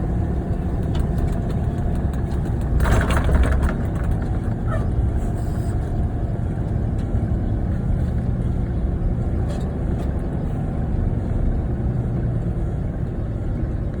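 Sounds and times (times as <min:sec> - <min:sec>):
car driving low rumble: 0:00.0 - 0:14.0.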